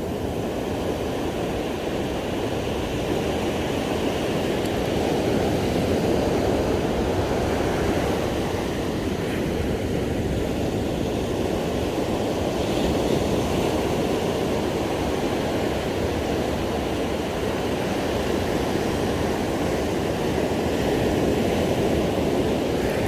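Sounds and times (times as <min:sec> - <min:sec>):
ocean surf breaking on beach: 0:00.0 - 0:23.0.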